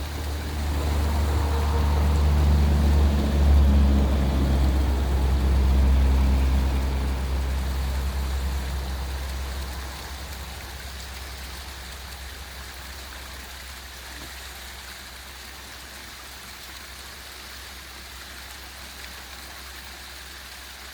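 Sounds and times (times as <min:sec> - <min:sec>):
low engine hum: 0:00.0 - 0:20.6
small waterfall rushing: 0:00.0 - 0:20.9.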